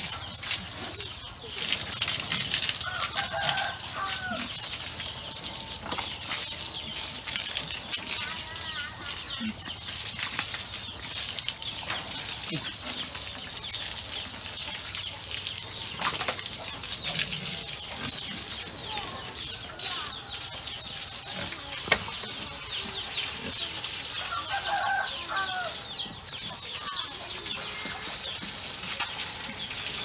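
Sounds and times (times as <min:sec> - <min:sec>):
water spraying from hose: 0:00.0 - 0:30.0.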